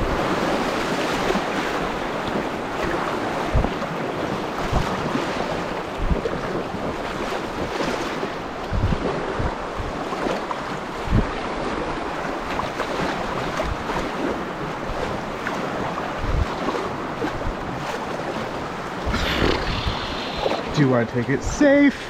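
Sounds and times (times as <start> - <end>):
river water rushing: 0.0 - 22.0
wind buffeting microphone: 0.0 - 22.0.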